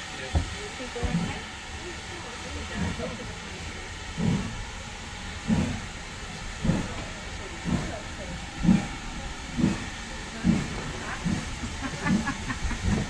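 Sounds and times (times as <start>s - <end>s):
steady steam hiss: 0.0s - 13.0s
steam locomotive chuffing: 0.0s - 13.0s.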